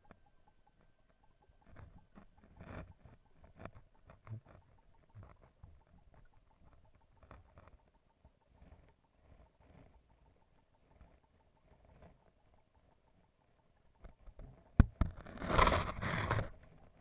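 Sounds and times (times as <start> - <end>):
small clicks and ticks: 0.0 - 17.0
underwater stream water: 0.0 - 17.0.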